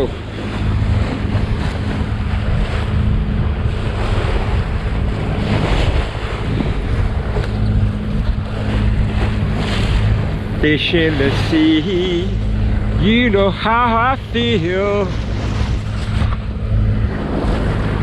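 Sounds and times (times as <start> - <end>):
steady low hum: 0.0 - 18.0
water rushing past hull: 0.0 - 18.0
wind buffeting microphone: 0.0 - 18.0.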